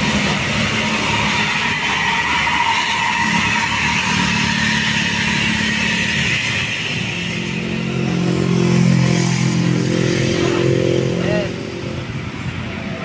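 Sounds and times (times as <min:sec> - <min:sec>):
diesel engines pulling uphill: 0:00.0 - 0:13.0.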